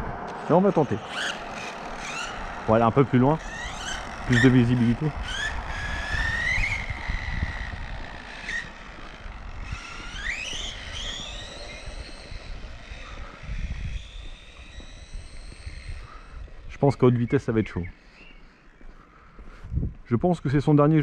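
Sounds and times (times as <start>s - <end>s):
small tyres rumbling on asphalt: 0.0s - 17.2s
toy car motor whining: 0.3s - 17.3s.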